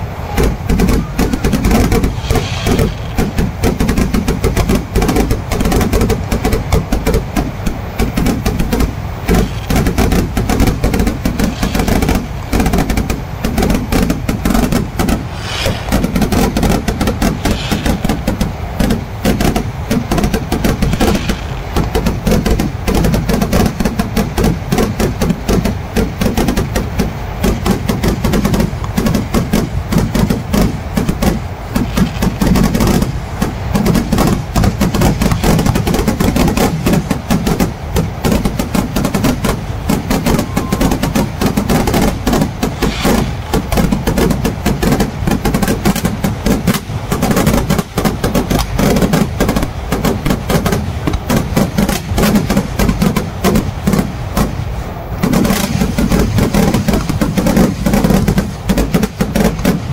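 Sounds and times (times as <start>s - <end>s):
rapid firecracker bangs: 0.0s - 59.9s.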